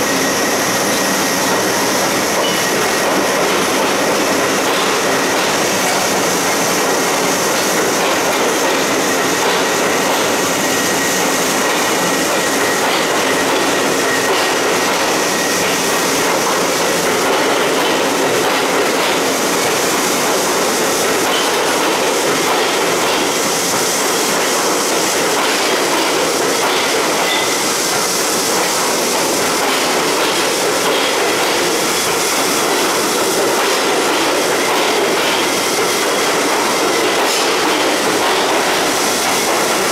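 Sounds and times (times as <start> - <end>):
subway train wheels on rails: 0.0 - 39.9.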